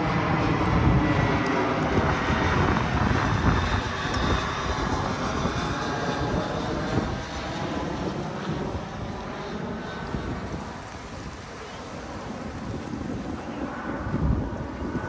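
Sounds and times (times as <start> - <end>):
airliner engines rumbling overhead: 0.0 - 15.0.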